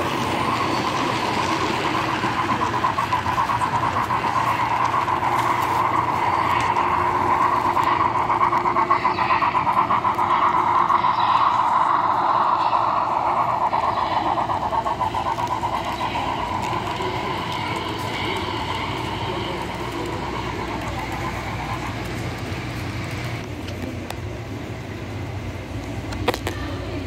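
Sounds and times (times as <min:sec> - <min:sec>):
freight cars rumbling on track: 0:00.0 - 0:27.0
model steam locomotive running: 0:00.0 - 0:27.0.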